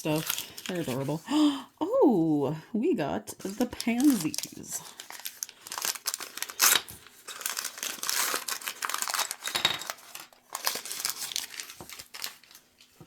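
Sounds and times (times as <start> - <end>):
plastic packaging crinkling: 0.0 - 1.2, 3.4 - 13.0.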